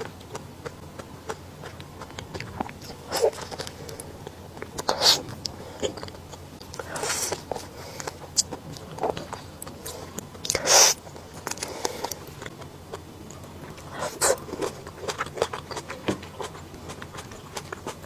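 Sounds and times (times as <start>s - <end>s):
wet chewing clicks: 0.0s - 18.0s.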